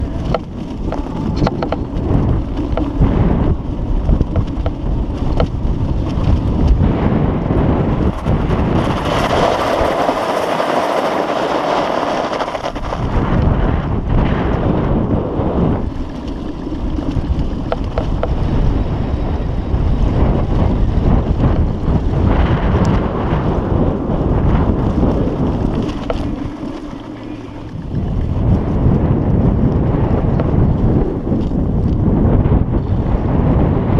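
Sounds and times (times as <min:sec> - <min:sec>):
steady wind hiss: 0:00.0 - 0:33.9
wind buffeting microphone: 0:00.0 - 0:33.9.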